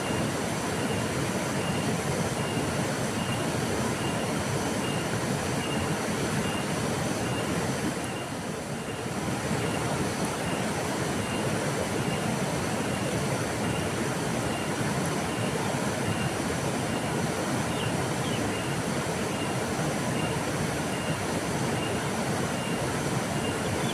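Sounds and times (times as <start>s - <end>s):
river water rushing: 0.0s - 23.9s.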